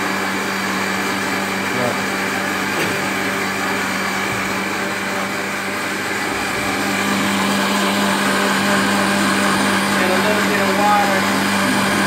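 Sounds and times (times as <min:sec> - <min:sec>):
electric blender whirring: 0:00.0 - 0:12.0.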